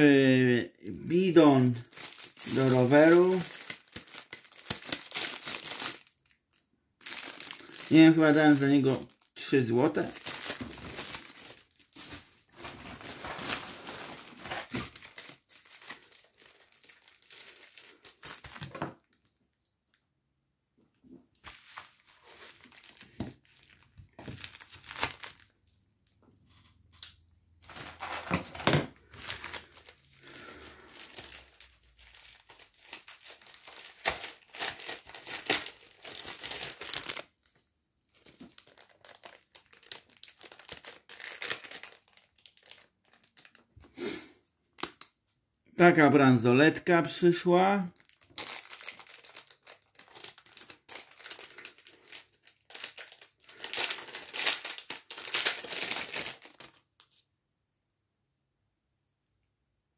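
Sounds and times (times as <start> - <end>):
plastic packaging crinkling: 1.0 - 19.3, 21.4 - 26.9, 27.6 - 43.7, 47.3 - 57.2.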